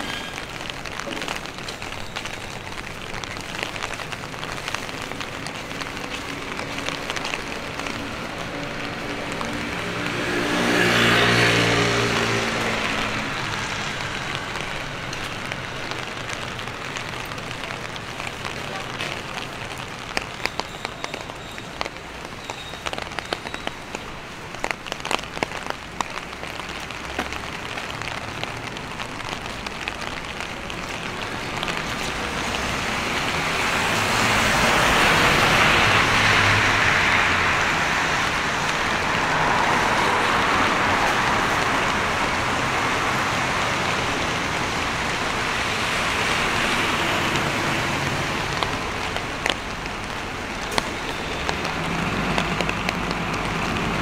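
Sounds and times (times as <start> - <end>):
steady rain on street: 0.0 - 54.0
tyres hissing on wet road: 0.0 - 54.0.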